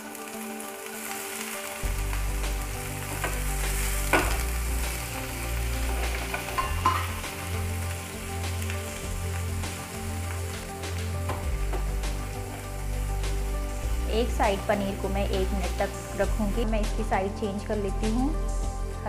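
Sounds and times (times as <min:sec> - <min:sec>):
cheese sizzling in hot oil: 0:00.0 - 0:17.7.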